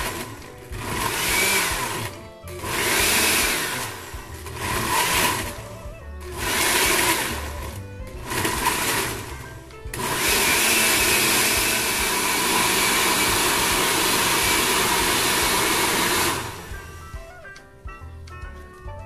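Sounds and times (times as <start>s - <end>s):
blender running: 0.0s - 17.0s
background music: 0.0s - 19.0s.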